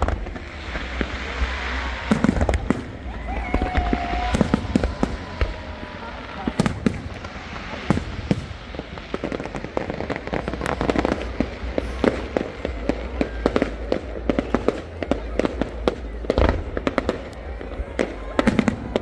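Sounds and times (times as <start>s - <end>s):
fireworks bangs and pops: 0.0s - 19.0s.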